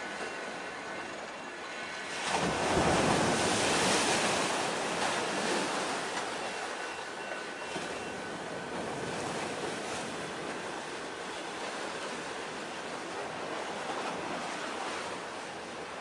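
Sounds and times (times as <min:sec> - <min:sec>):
sea waves washing: 0:00.0 - 0:16.0.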